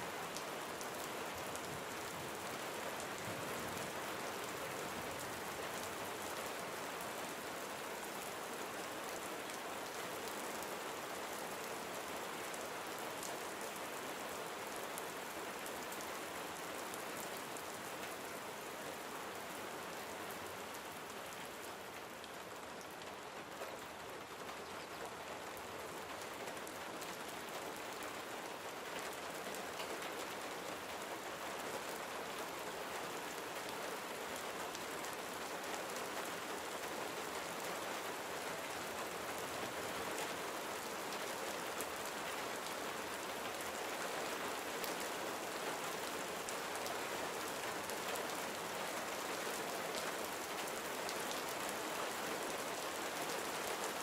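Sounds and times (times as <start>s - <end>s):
gentle rain falling: 0.0s - 54.0s.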